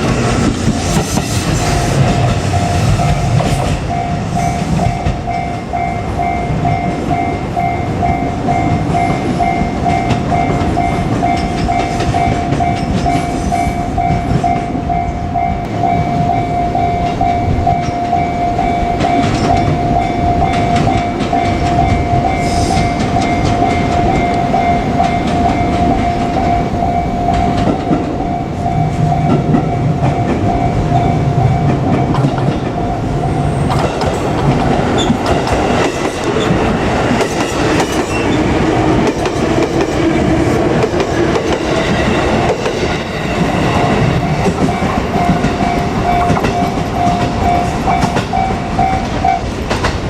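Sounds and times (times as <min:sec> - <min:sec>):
train wheels clattering over rails: 0:00.0 - 0:15.0, 0:15.6 - 0:50.0
level crossing warning tone: 0:01.5 - 0:49.9.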